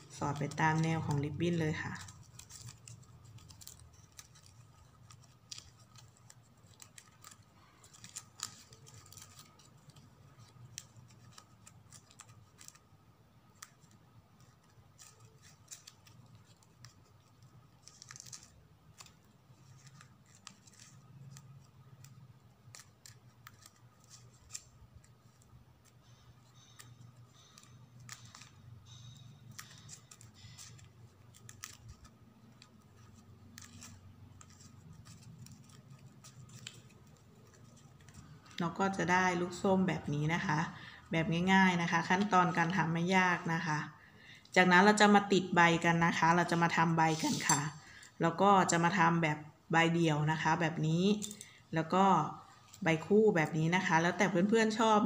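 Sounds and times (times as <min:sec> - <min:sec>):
plastic ribbon rustling: 0:00.0 - 0:49.2, 0:50.3 - 0:55.0.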